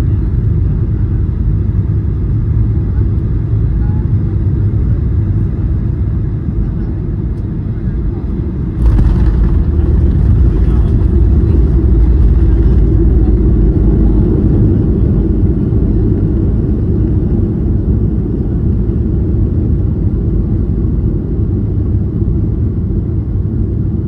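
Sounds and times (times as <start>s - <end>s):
jet engine and runway rumble: 0.0s - 24.0s.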